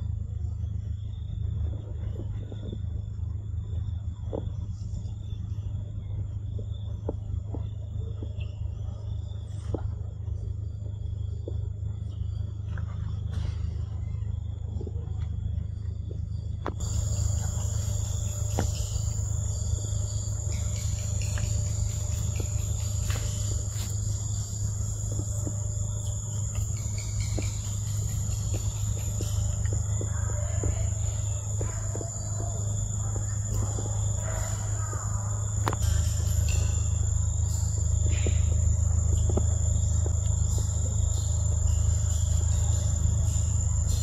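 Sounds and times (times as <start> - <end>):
insects droning: 0.0 - 44.0
low rumble: 0.0 - 44.0.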